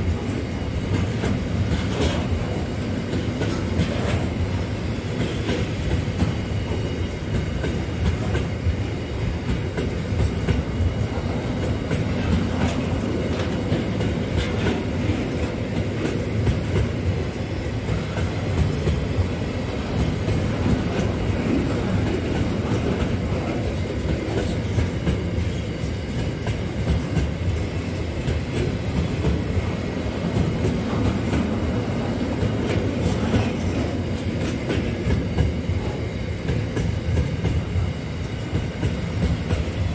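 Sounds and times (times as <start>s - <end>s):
train wagons rumbling: 0.0s - 39.9s.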